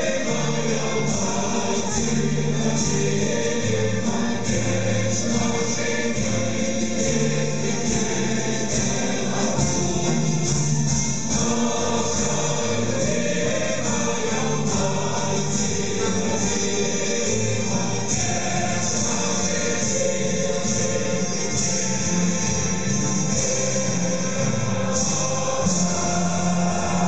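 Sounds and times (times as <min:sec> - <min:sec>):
choir singing with instruments: 0:00.0 - 0:27.0.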